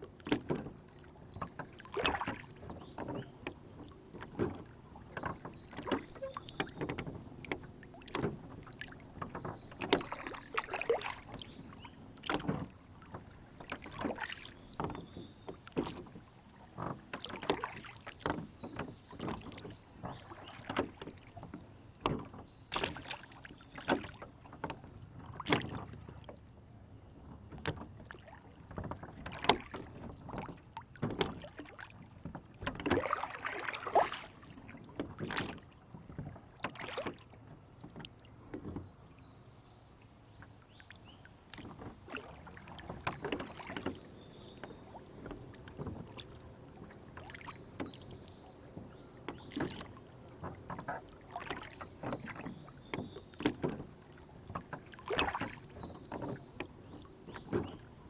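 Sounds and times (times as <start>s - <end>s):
oars knocking on boat: 0.0s - 26.5s, 27.2s - 39.3s, 40.4s - 58.0s
water splashing: 0.0s - 26.6s, 27.6s - 38.8s, 40.6s - 58.0s
water slapping against hull: 0.0s - 58.0s.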